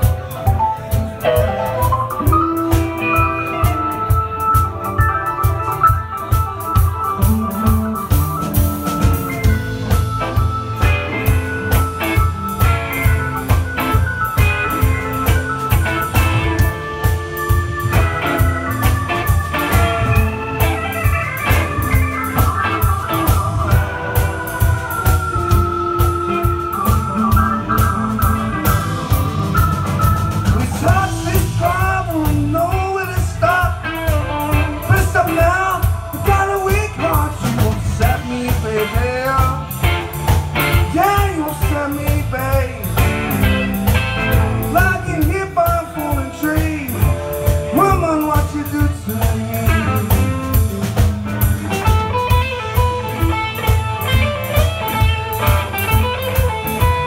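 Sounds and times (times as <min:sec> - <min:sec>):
bass guitar: 0:00.0 - 0:57.0
electric guitar lead with bends: 0:00.0 - 0:57.0
steady drum beat: 0:00.0 - 0:57.0.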